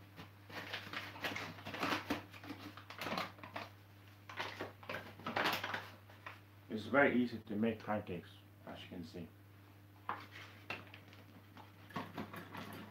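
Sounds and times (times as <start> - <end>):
low appliance hum: 0.0 - 12.9.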